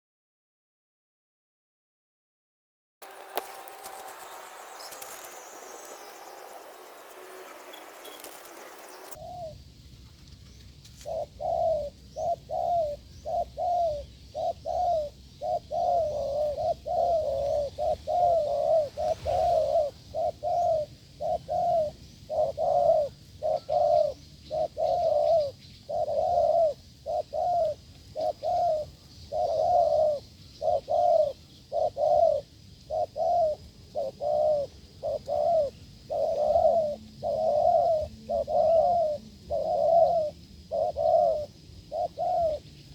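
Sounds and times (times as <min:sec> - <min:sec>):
dove cooing: 0:03.0 - 0:09.6, 0:11.0 - 0:42.7.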